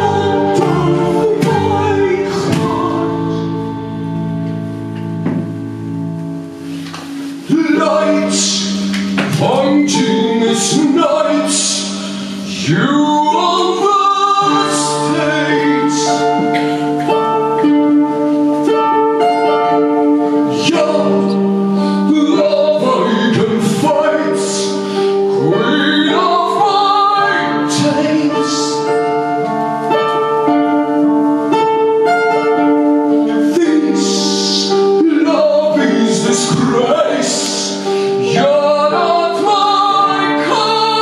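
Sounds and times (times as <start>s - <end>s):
person singing: 0.0s - 4.4s, 7.1s - 41.0s
live band music: 0.0s - 41.0s.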